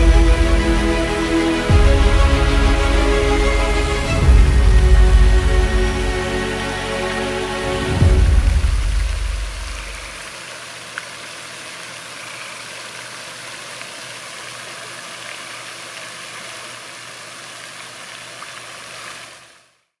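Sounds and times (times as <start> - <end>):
fountain spray splashing on water: 0.0 - 19.8.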